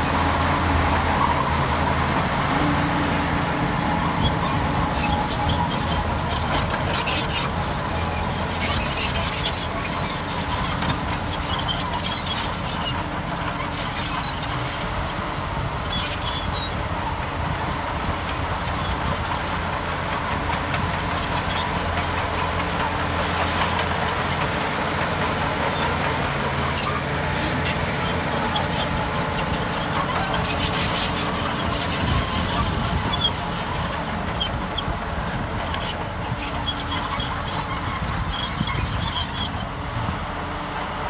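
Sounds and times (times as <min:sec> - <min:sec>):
diesel engine running: 0:00.0 - 0:41.0
steel tracks squeaking and rattling: 0:00.0 - 0:41.0.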